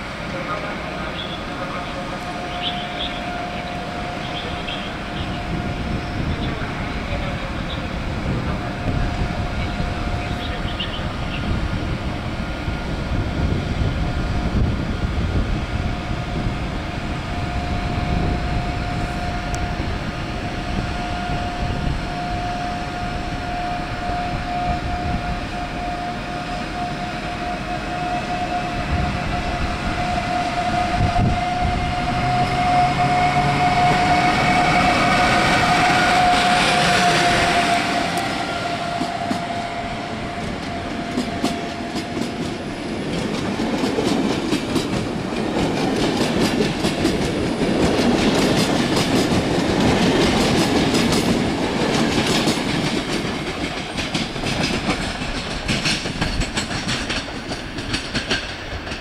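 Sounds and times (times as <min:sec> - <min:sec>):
locomotive high whine: 0:00.0 - 0:59.0
train rumbling running noise: 0:00.0 - 0:59.0.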